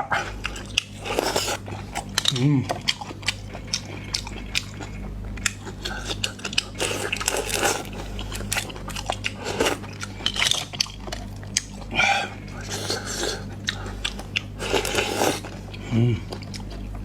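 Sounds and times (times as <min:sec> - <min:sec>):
chewing and crunching food: 0:00.0 - 0:17.0.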